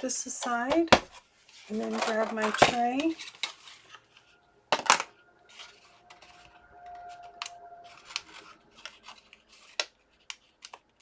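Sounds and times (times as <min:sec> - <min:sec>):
faint steady tone: 0:00.0 - 0:10.9.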